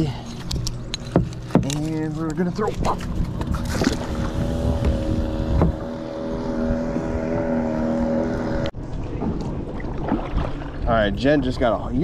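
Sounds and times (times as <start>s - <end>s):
boat motor running: 0.0s - 11.8s.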